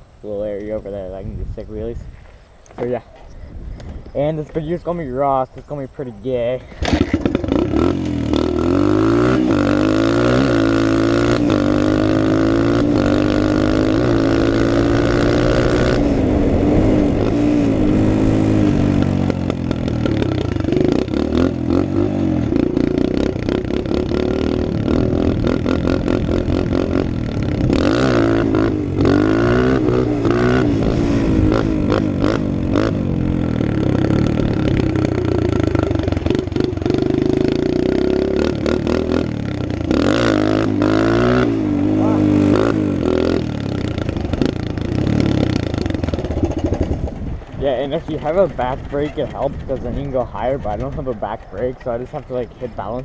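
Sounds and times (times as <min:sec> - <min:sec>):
dirt bike engine revving: 0:06.3 - 0:53.0
bike rattle: 0:06.6 - 0:53.0.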